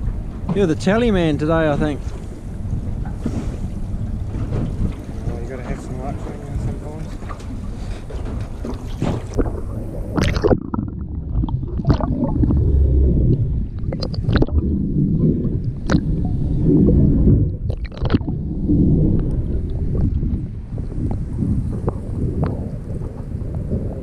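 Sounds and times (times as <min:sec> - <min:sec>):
muffled underwater rumble and gurgle: 0:00.0 - 0:24.0
wind and water noise: 0:00.0 - 0:24.0.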